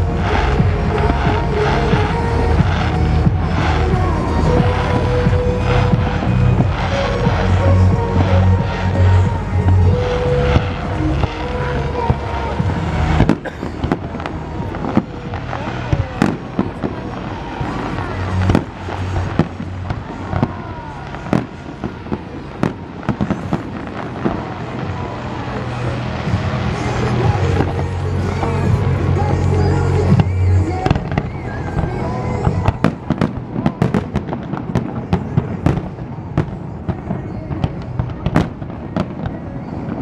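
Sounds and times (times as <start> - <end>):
fireworks bangs and crackles: 0.0 - 40.0
music over loudspeakers: 0.0 - 40.0.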